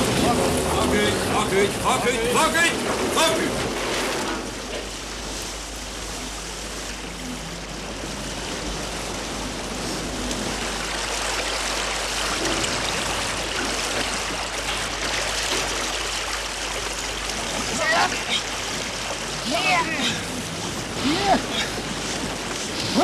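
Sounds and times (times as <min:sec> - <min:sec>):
water rushing along hull: 0:00.0 - 0:23.0.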